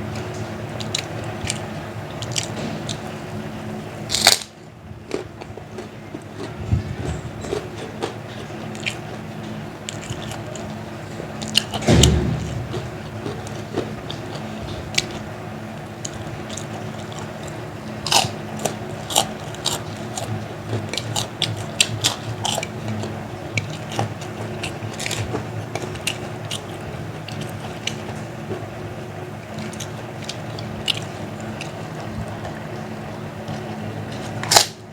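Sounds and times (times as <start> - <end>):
chewing crunchy crackers: 0.0 - 34.8.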